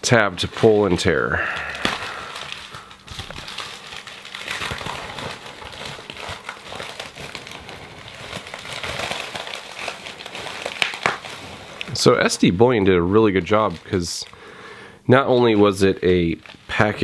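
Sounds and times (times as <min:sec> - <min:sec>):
plastic packaging crinkling: 0:00.0 - 0:17.0
package being torn open: 0:00.4 - 0:14.5, 0:15.2 - 0:17.0.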